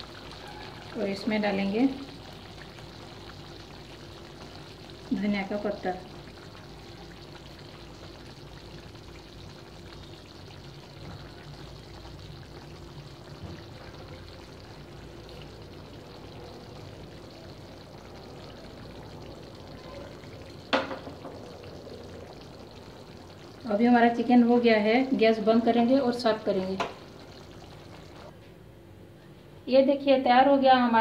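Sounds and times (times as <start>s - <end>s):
curry bubbling in pan: 0.0s - 28.4s.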